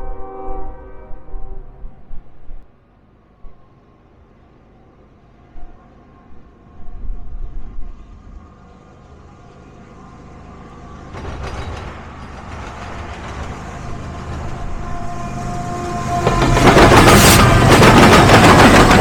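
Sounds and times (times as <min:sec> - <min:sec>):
freight train rumble: 0:00.0 - 0:19.0.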